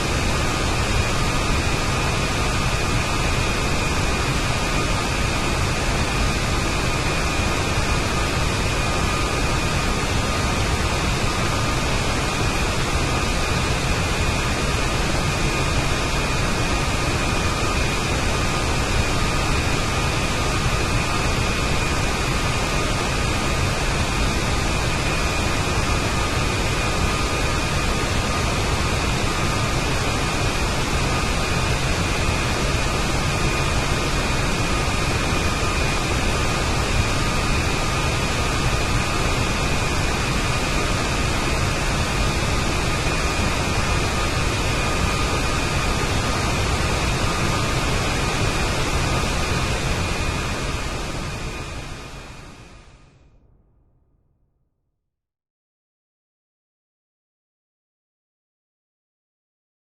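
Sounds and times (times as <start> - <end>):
jet engine rushing: 0.0 - 52.9.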